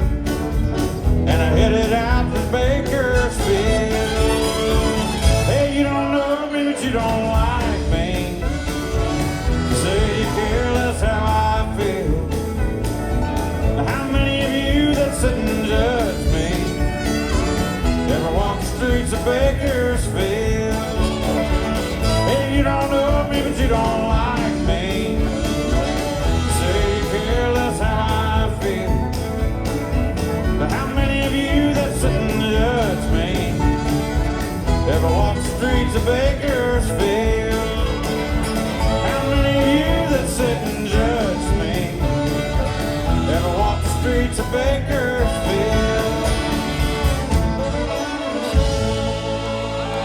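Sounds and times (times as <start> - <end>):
bass: 0.0 - 50.0
country band playing: 0.0 - 50.0
drums: 0.0 - 50.0.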